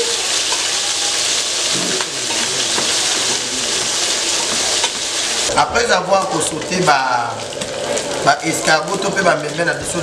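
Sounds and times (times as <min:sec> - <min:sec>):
snails sizzling in hot oil: 0:00.0 - 0:10.0.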